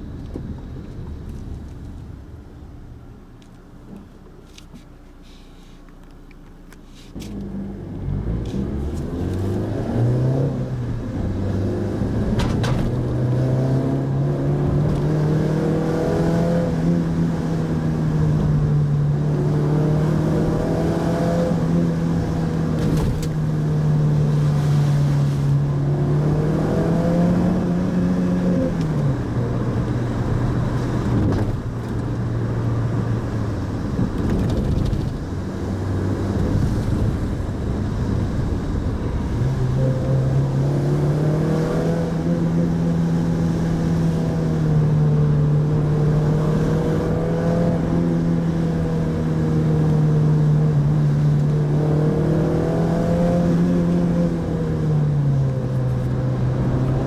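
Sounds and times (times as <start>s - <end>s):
car engine running while driving: 0.0s - 57.0s.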